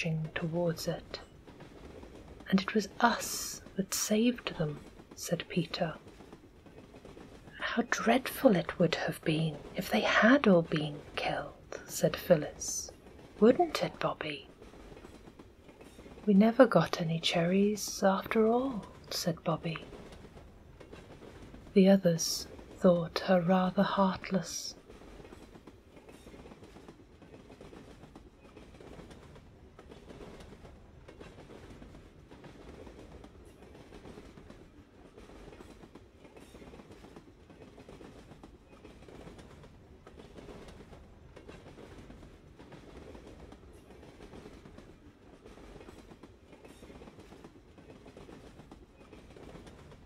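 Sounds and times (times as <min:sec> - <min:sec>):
train rumbling on tracks: 0:00.0 - 0:50.0.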